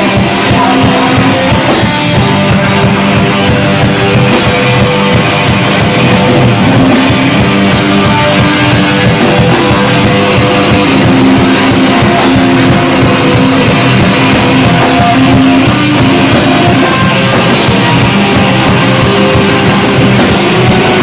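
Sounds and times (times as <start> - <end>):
bass: 0.0 - 21.0
drums: 0.0 - 21.0
electric guitar: 0.0 - 21.0.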